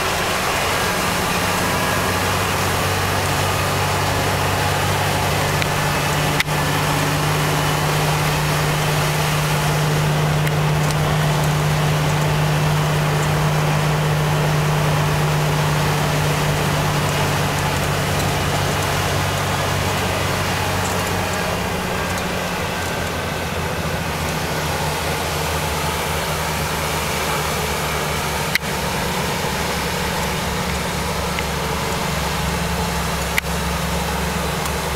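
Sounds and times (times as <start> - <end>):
road noise hiss: 0.0 - 34.9
truck diesel engine running: 0.0 - 34.9.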